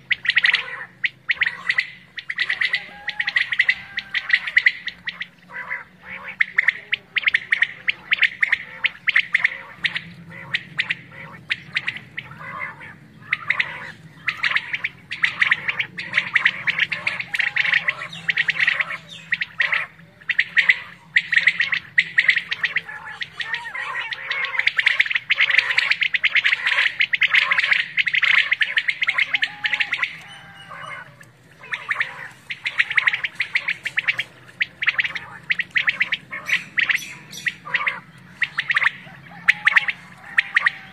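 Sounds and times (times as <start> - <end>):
quail calling in chorus: 0.0 - 40.9.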